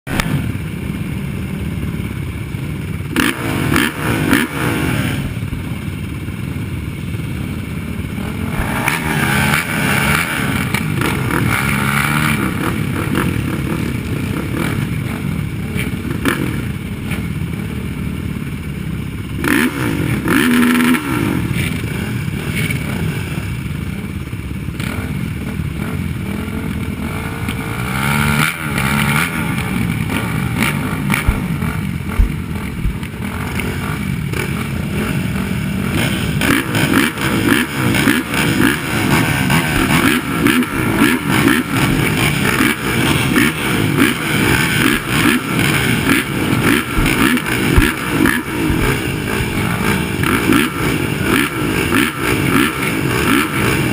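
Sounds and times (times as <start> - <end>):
quad engines revving: 0.1 - 53.9.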